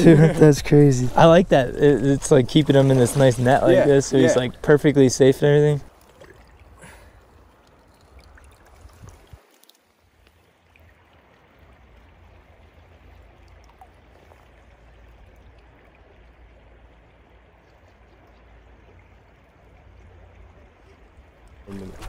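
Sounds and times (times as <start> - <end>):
stream water trickling: 0.0 - 21.8.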